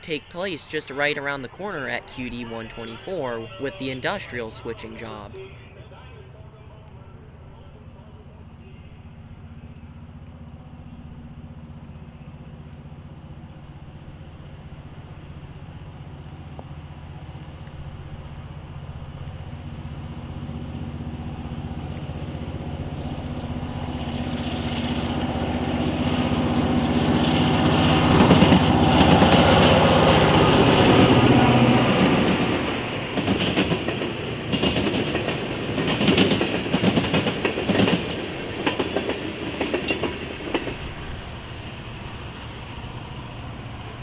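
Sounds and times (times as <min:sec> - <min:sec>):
diesel locomotive engine drone: 0:00.0 - 0:44.0
train wheel and rail noise: 0:00.0 - 0:44.0.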